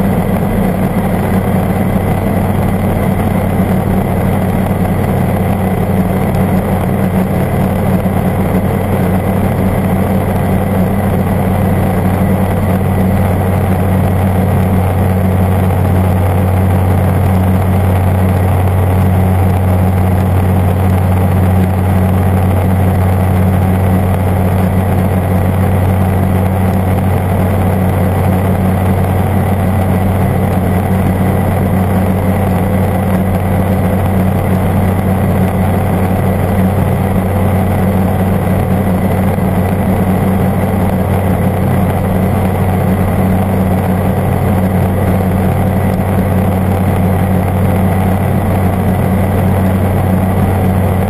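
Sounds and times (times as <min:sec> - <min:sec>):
ultralight aircraft engine drone: 0:00.0 - 0:51.0.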